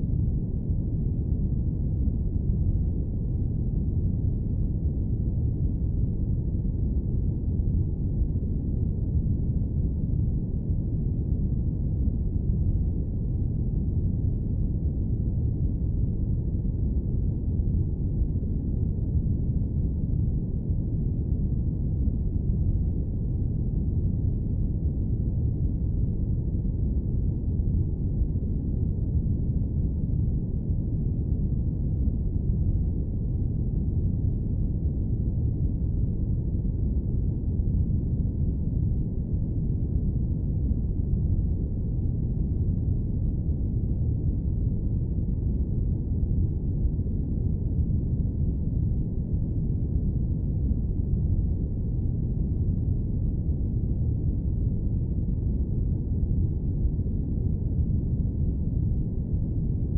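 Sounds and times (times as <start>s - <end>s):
airplane cabin low rumble: 0.0s - 59.9s.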